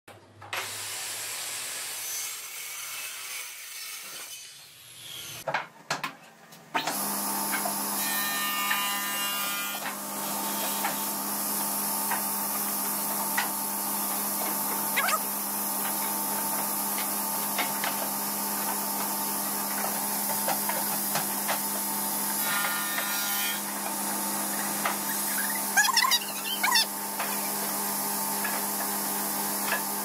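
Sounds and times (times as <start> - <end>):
circular saw cutting wood: 0.6 - 5.5, 6.8 - 30.0.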